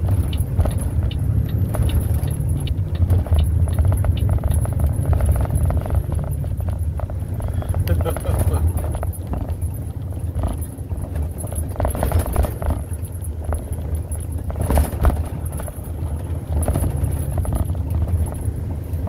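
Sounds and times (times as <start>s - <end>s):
vehicle rumble from inside cab: 0.0s - 19.0s.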